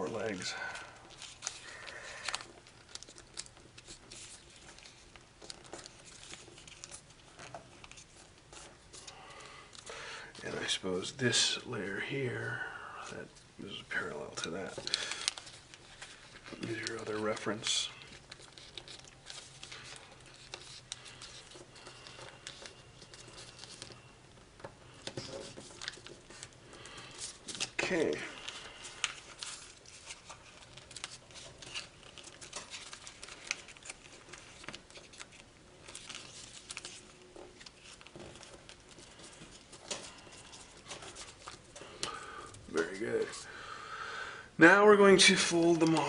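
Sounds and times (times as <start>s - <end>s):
foil paper crinkling: 0.0s - 44.2s, 44.8s - 46.0s.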